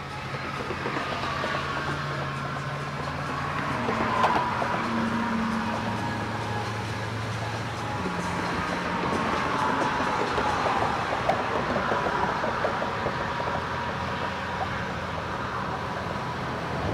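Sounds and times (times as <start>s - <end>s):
yacht engines rumbling: 0.0s - 16.9s.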